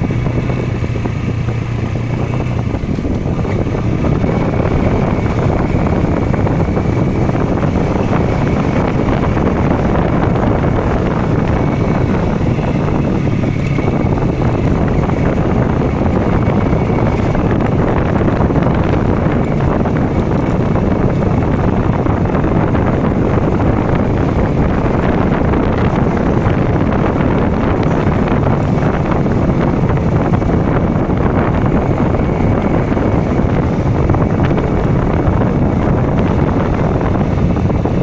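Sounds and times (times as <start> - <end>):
motorcycle engine running: 0.0 - 38.0
wind rush on microphone: 0.0 - 38.0.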